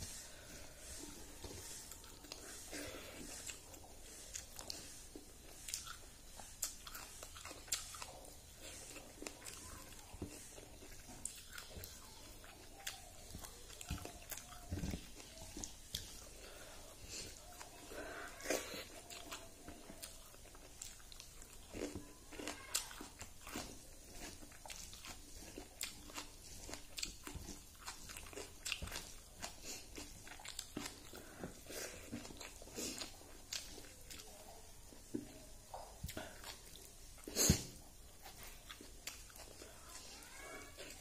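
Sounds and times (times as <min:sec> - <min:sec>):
chewing with smacks and clicks: 0:00.0 - 0:41.0.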